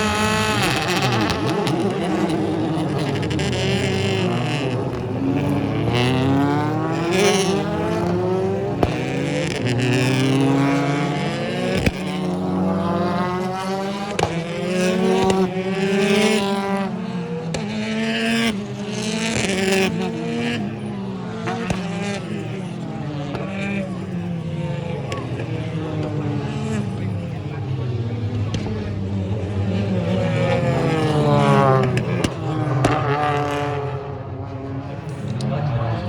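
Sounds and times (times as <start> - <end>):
race car engines at full throttle: 0.0 - 36.0.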